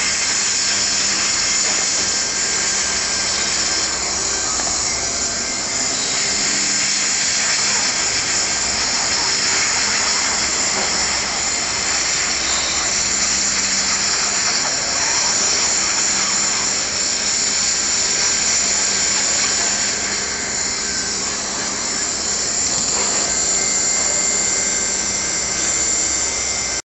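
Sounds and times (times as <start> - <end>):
hot-air welding gun hissing: 0.0 - 26.8.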